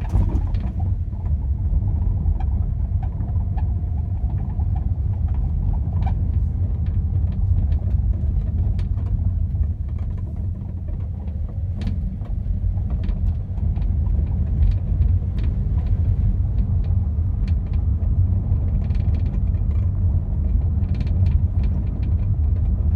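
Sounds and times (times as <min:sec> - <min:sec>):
low road rumble: 0:00.0 - 0:22.9.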